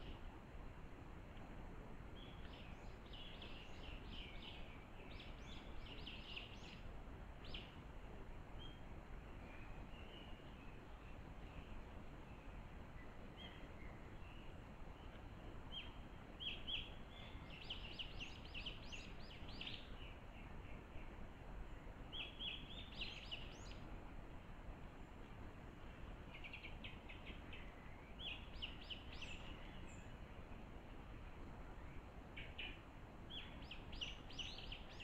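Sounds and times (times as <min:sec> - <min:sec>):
faint background hiss: 0:00.0 - 0:35.0
songbird chirping: 0:01.4 - 0:35.0.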